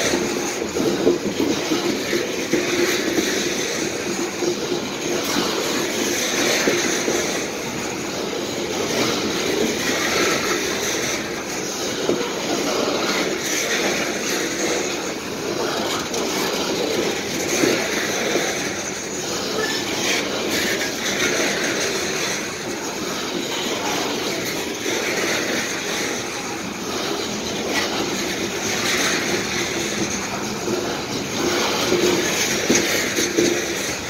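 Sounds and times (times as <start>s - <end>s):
freight cars rumbling on rails: 0.0s - 34.0s.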